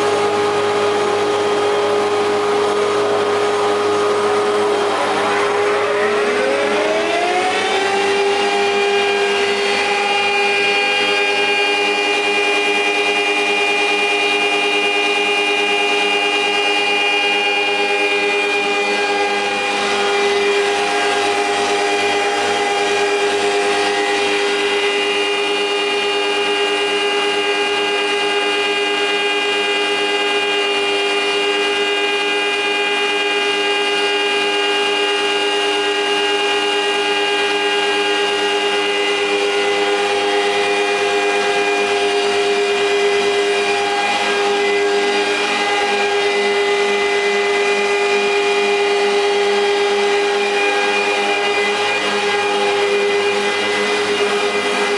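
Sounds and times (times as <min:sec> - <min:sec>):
planer machine running: 0:00.0 - 0:54.9.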